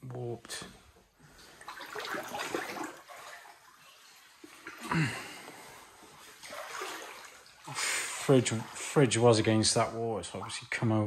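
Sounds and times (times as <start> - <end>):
water sloshing around wading legs: 1.3 - 11.0.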